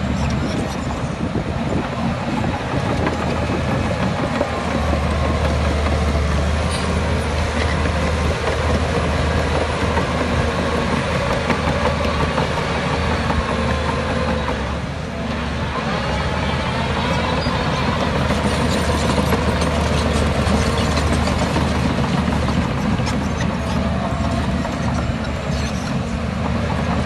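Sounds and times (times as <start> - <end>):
diesel machinery engine rumble: 0.0 - 27.0.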